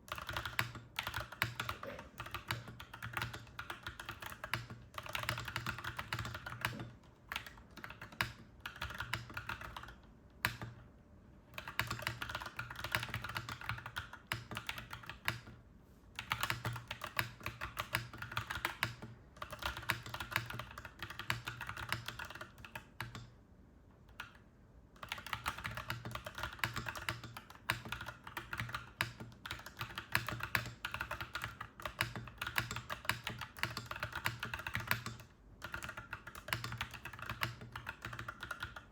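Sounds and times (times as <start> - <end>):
mechanical keyboard typing: 0.1 - 10.8, 11.5 - 15.6, 16.2 - 23.3, 24.1 - 24.4, 25.0 - 38.9.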